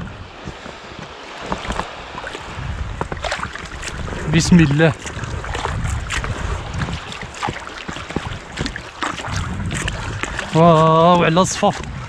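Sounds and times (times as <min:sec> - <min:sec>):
water sloshing and splashing: 0:00.0 - 0:12.0
wind rumbling on microphone: 0:00.0 - 0:12.0.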